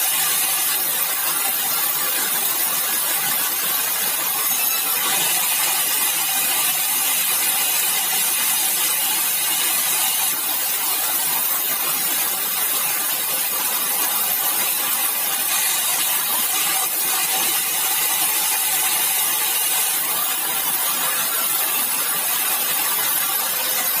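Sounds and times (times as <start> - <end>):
sawmill saw running: 0.0 - 24.0.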